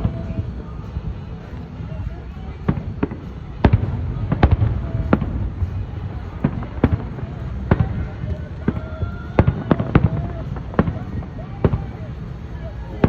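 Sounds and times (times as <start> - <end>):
fireworks sharp bangs: 0.0 - 13.0
rumble of distant fireworks: 0.0 - 13.0.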